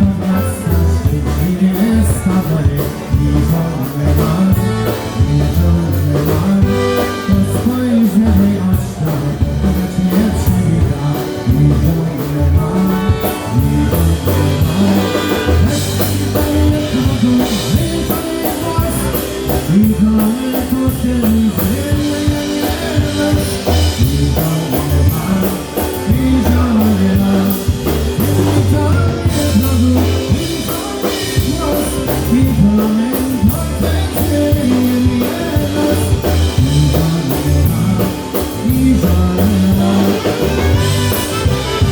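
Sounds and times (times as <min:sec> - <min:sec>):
drum kit beat: 0:00.0 - 0:41.9
polka band playing: 0:00.0 - 0:41.9.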